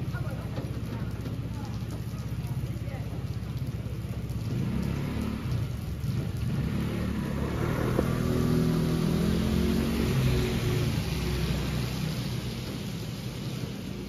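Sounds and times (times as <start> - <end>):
scooter passing on wet street: 0.0 - 14.0
steady rain: 0.0 - 14.0.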